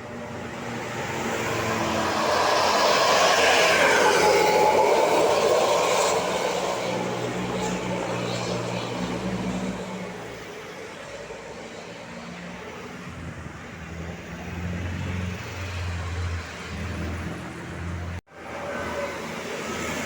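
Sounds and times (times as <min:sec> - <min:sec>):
bus passing by: 0:00.0 - 0:20.0.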